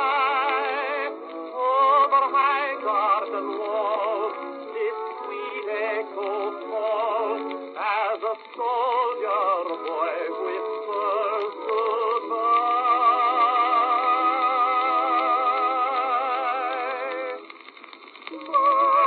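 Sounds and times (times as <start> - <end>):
person singing with vibrato: 0.0 - 17.6, 18.3 - 19.0
musical accompaniment: 0.0 - 19.0.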